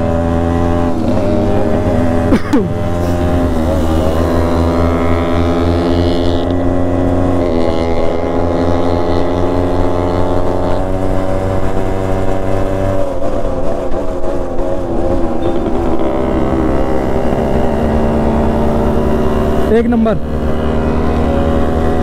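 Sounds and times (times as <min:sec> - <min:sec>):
two-stroke motorcycle engine running: 0:00.0 - 0:22.0.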